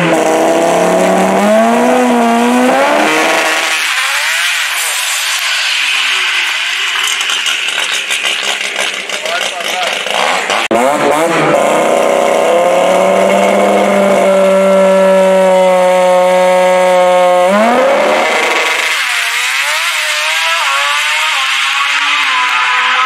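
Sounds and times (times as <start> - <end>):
drag race car engine revving: 0.0 - 23.0.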